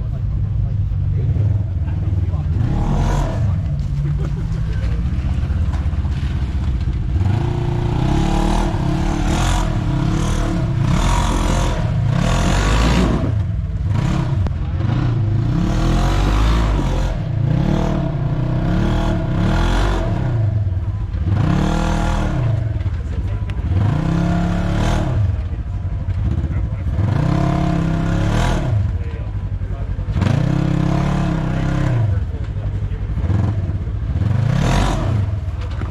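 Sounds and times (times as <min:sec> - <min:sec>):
vehicle engine revving: 0:00.0 - 0:35.9.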